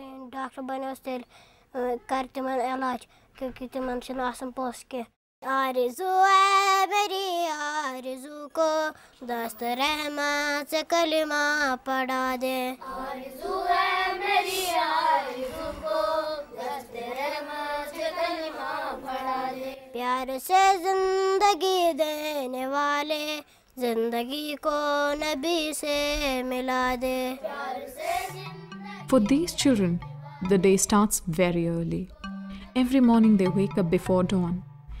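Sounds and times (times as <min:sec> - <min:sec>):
boy singing prayer song: 0:00.0 - 0:30.9.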